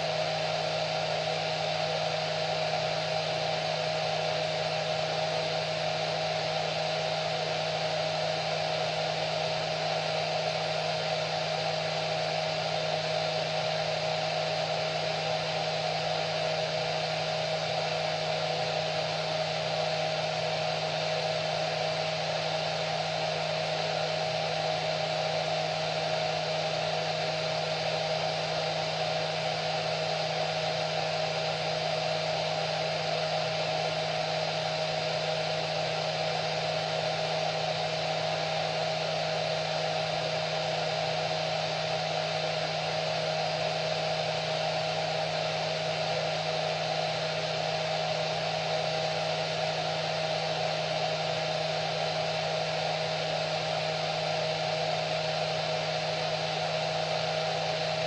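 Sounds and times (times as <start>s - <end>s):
hair dryer running: 2.9s - 58.0s.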